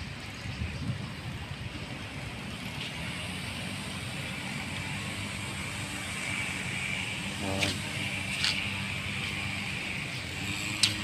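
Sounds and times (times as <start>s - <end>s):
tyre noise on road: 0.0s - 11.0s
car engine: 1.4s - 11.0s.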